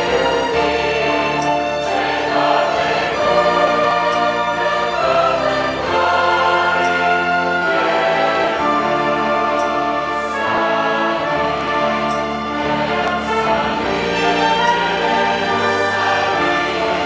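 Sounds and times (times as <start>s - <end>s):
choir singing: 0.0s - 17.0s
string orchestra: 0.0s - 17.0s.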